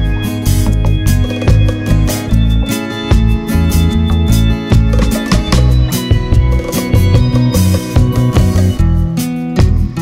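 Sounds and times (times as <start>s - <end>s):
song with guitar and steady beat: 0.0s - 10.0s.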